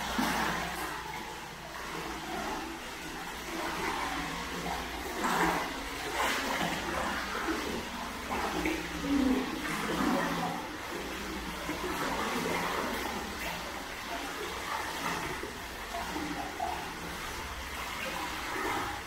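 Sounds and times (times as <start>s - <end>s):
running water: 0.0s - 19.0s
water sloshing and splashing: 0.0s - 19.0s.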